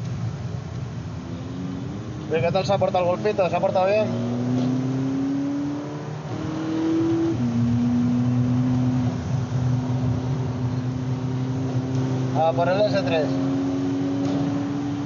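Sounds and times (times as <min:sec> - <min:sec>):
car engine under power: 0:02.0 - 0:15.0.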